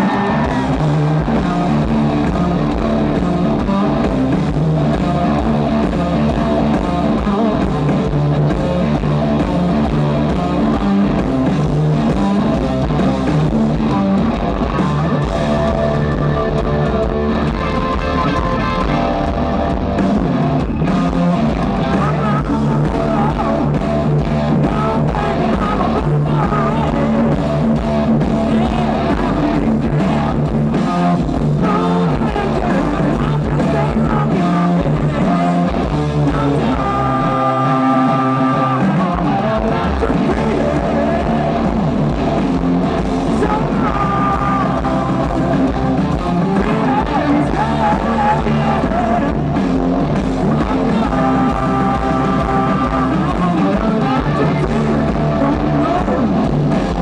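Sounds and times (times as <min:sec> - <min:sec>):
hard rock band playing live: 0:00.0 - 0:57.0.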